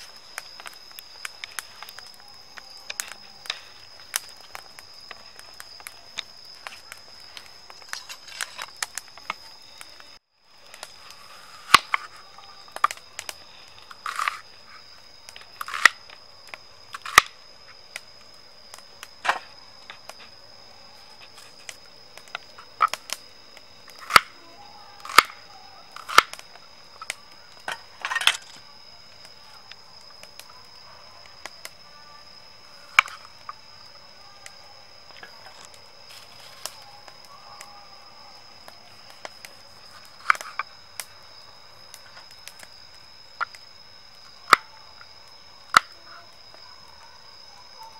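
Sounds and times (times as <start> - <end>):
wood fire crackling: 0.0 - 47.5.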